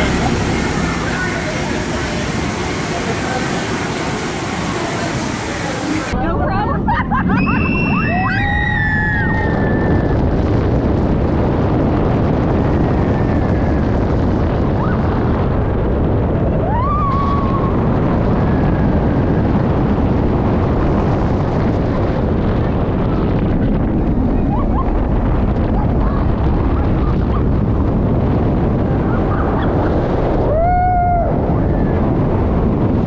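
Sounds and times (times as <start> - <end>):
roller coaster train roaring: 0.0 - 33.0
wind rushing on microphone: 0.0 - 33.0.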